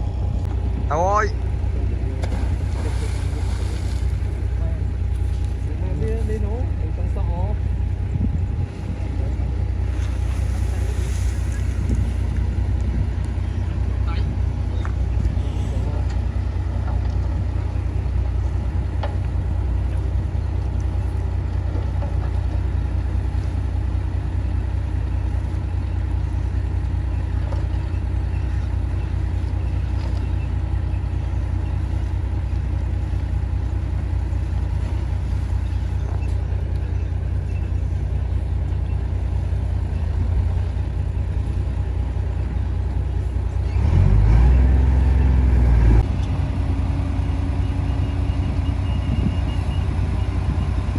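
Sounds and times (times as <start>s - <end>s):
bulldozer diesel engine rumbling: 0.0s - 50.9s.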